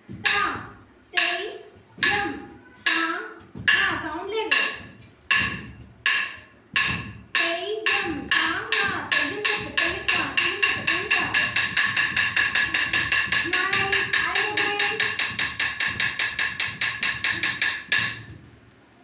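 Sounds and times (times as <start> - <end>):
person chanting rhythm syllables: 0.0 - 18.2
wooden stick striking wooden block: 2.0 - 18.4.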